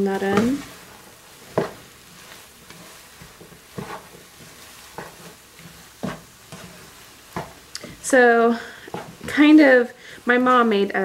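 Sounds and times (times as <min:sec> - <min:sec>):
spatula scraping a pan: 0:00.0 - 0:09.8
egg and meat sizzling in a pan: 0:00.0 - 0:11.0.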